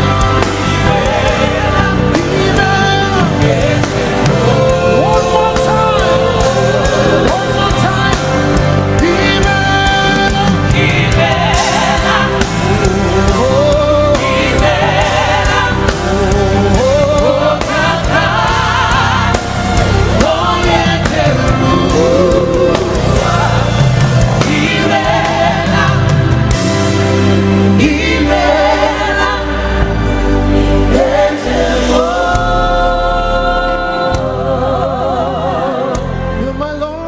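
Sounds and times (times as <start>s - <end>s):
person singing gospel: 0.0s - 26.5s, 27.5s - 37.0s
full band accompaniment: 0.0s - 37.0s.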